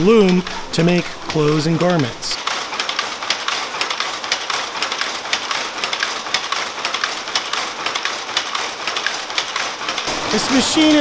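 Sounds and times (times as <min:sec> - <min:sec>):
loom clattering: 0:00.0 - 0:11.0.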